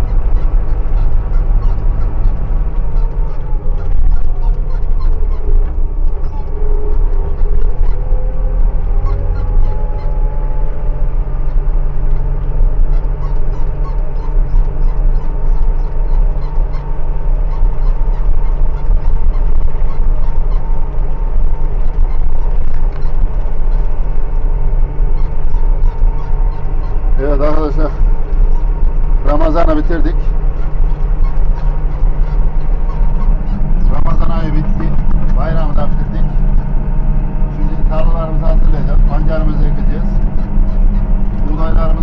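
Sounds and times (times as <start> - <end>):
engine rumbling steadily: 0.0 - 42.0.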